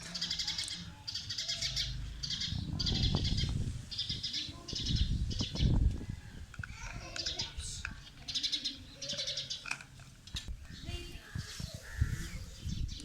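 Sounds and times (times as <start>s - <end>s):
parakeets chirping and chattering: 0.0s - 13.0s.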